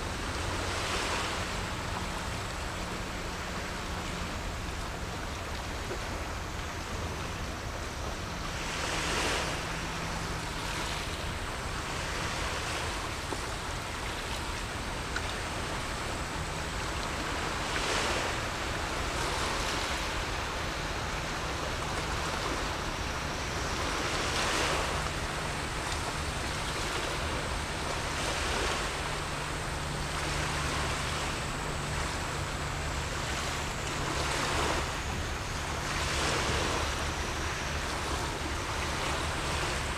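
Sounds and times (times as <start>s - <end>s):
small waves washing ashore: 0.0s - 39.9s.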